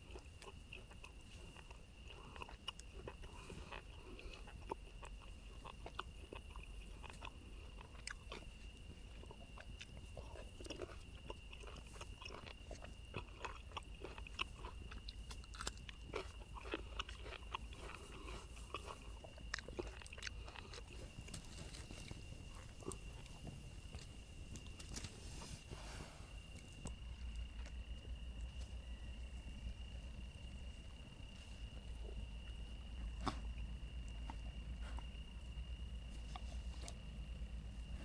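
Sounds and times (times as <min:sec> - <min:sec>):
chewing and crunching: 0:00.0 - 0:38.0.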